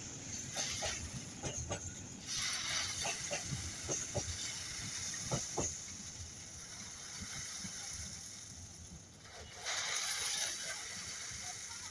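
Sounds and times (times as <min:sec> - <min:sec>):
freight train rumbling past: 0:00.0 - 0:11.9.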